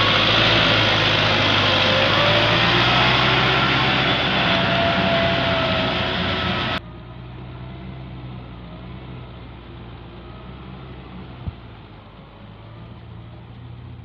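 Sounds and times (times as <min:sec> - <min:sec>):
tiller blades churning: 0:00.0 - 0:14.0
tractor engine under load: 0:00.0 - 0:14.0.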